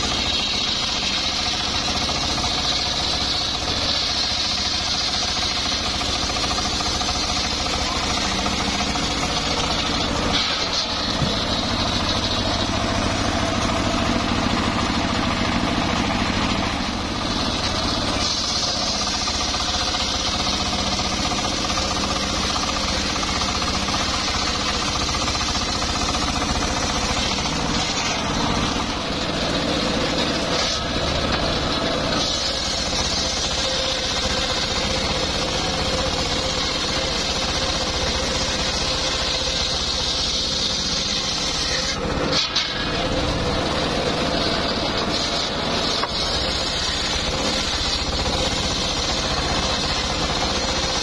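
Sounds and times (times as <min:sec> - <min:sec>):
engine droning: 0:00.0 - 0:51.0
saw blade ripping through log: 0:00.0 - 0:51.0.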